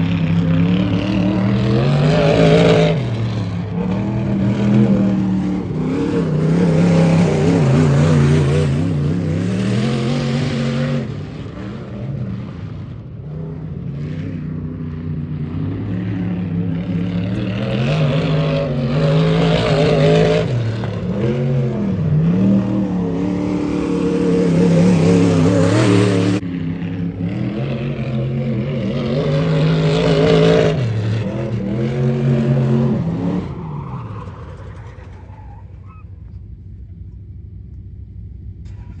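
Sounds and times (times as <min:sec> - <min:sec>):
race car engines passing: 0:00.0 - 0:37.1.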